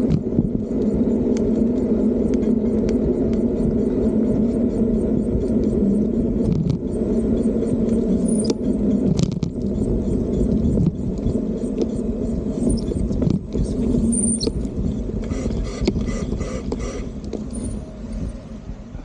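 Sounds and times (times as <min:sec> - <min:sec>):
road noise: 0:00.0 - 0:19.0
wind on microphone: 0:00.0 - 0:19.0.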